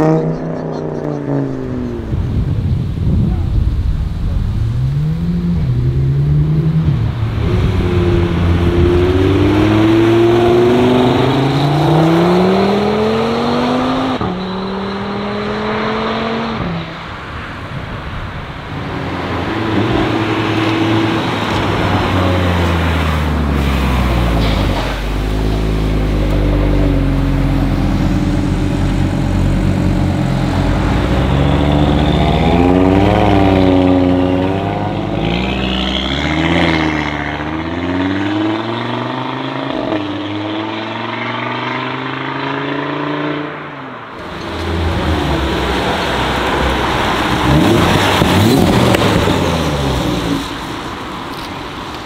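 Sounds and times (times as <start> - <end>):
car engines accelerating: 0.0 - 52.0.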